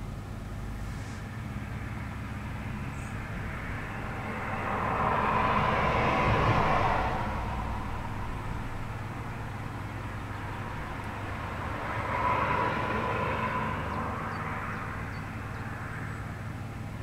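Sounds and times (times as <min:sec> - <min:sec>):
steady low hum: 0:00.0 - 0:17.0
vehicle passing: 0:00.6 - 0:17.0.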